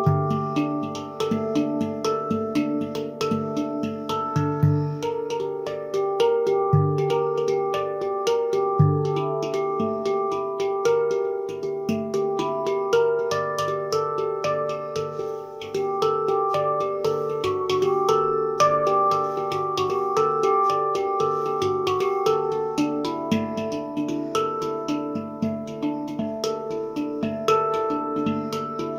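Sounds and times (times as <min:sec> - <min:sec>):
handpan played with fingers: 0:00.0 - 0:28.9.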